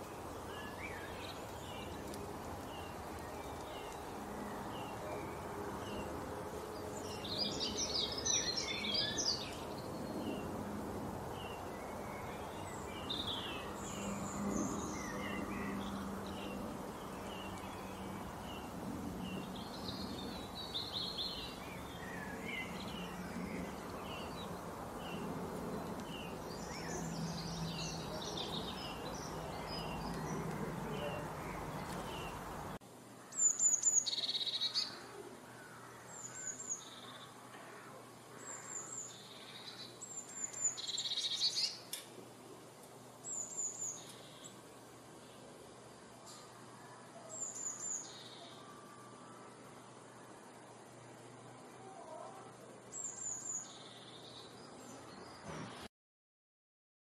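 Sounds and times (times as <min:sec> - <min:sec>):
background hiss: 0:00.0 - 0:55.9
birds chirping: 0:00.0 - 0:55.9
rapid high birdsong: 0:00.0 - 0:55.9.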